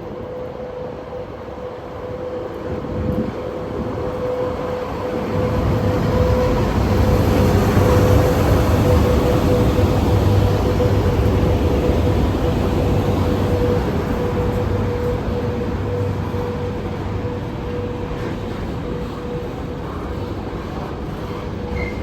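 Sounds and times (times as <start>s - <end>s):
electric locomotive approaching: 0.0s - 22.0s.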